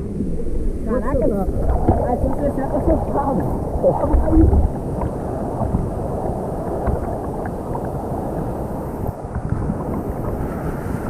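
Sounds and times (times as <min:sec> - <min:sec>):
waterfall rushing: 0:00.0 - 0:09.2
small water splashes: 0:00.2 - 0:11.0.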